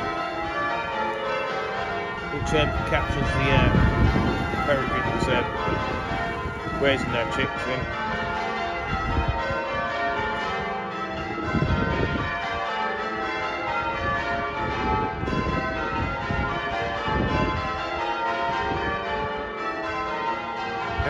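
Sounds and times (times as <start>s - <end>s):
church bells pealing: 0.0s - 21.0s.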